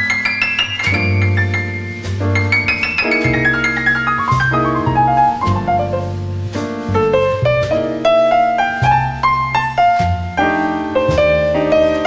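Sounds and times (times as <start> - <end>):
double bass: 0.0 - 12.0
jazz piano: 0.0 - 12.0.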